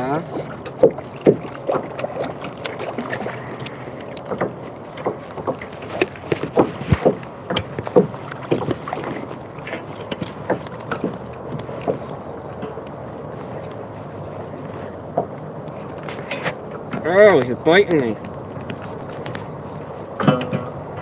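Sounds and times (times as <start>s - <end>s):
steady background noise: 0.0s - 21.0s
knocks and taps on a kayak: 0.4s - 21.0s.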